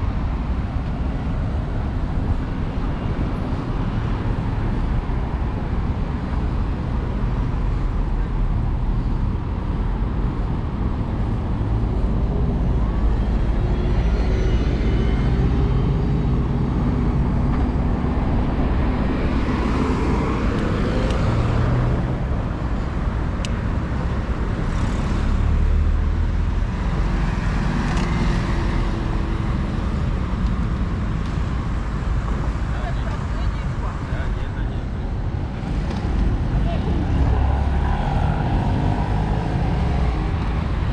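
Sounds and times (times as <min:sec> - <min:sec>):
rumble of passing cars: 0:00.0 - 0:40.9
vehicles passing close: 0:00.0 - 0:40.9.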